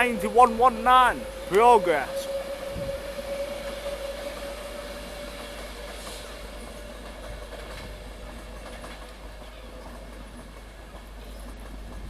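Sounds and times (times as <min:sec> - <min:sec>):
electric train whine: 0:00.0 - 0:12.0
rail noise: 0:00.0 - 0:12.0.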